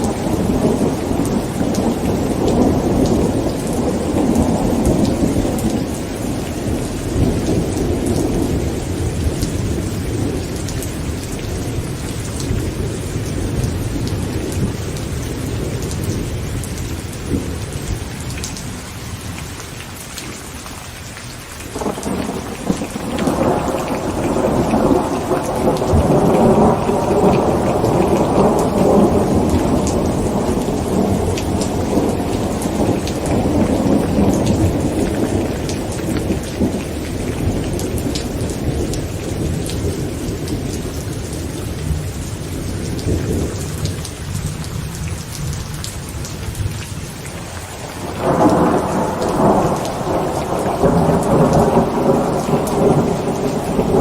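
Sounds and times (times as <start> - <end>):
rolling thunder: 0.0 - 18.1, 21.8 - 54.0
heavy rain on a tent: 0.0 - 54.0.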